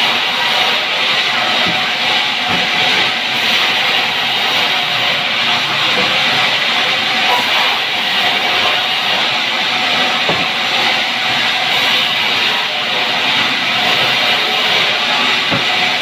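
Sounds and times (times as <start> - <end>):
band saw cutting log: 0.0 - 16.0.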